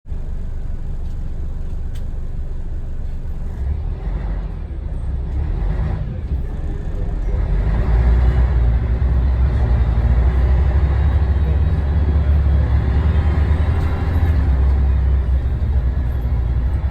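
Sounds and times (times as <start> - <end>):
bus diesel engine rumbling: 0.0 - 16.9.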